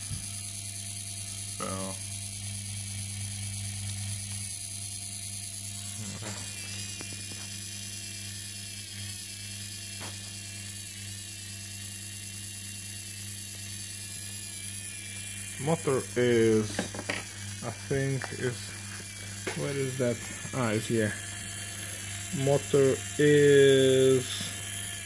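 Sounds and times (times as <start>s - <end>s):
washing machine motor humming: 0.0s - 25.0s.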